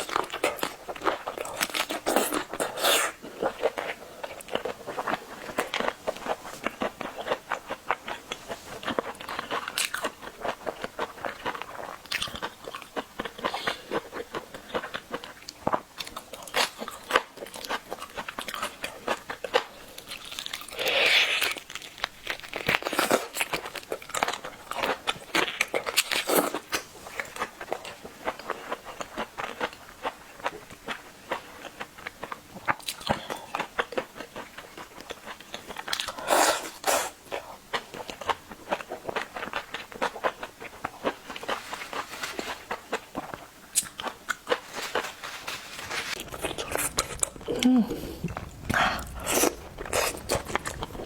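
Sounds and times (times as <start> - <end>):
person chewing food: 0.0 - 51.0.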